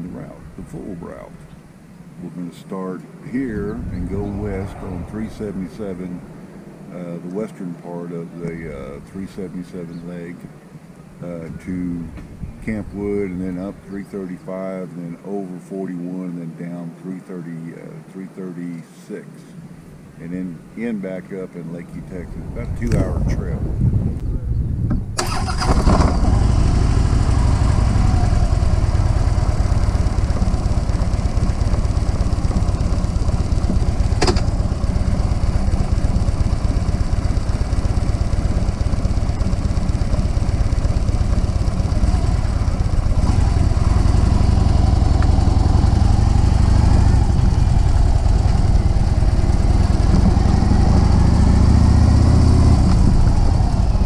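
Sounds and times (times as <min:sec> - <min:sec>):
motorcycle engine rumbling: 0:00.0 - 0:15.2, 0:21.8 - 0:54.0.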